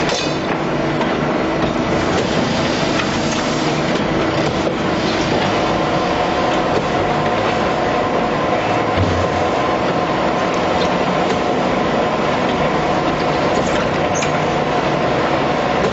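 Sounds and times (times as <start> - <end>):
concrete pump engine drone: 0.0 - 15.9.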